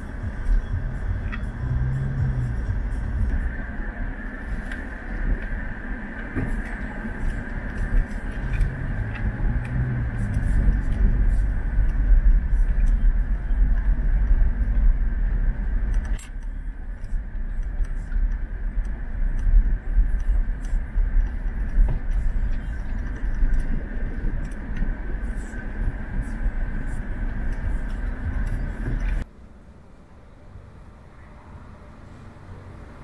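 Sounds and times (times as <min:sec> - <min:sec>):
car cabin road rumble: 0:00.0 - 0:33.0
quiet outdoor ambience: 0:00.0 - 0:33.0.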